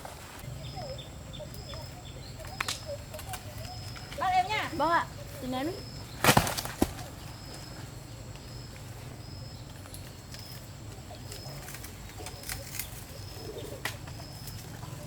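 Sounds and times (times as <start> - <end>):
low steady outdoor hum: 0.0 - 15.0.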